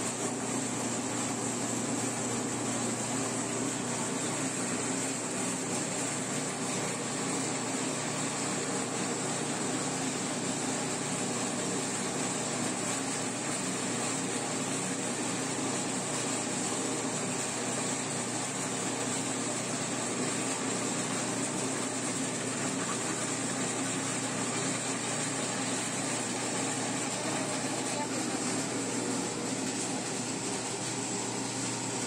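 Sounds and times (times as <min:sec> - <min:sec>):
grinding mill humming: 0:00.0 - 0:32.0.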